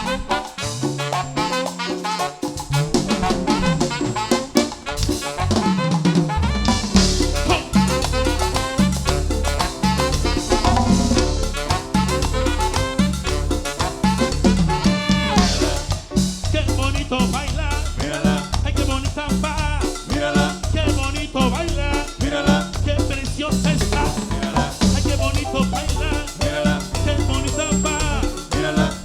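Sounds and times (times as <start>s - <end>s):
live band playing latin dance music: 0.0s - 29.0s.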